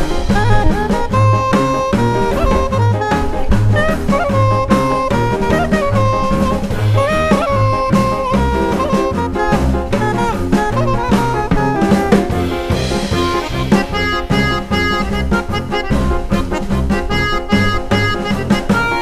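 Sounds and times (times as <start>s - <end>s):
upbeat jazz music: 0.0s - 19.0s.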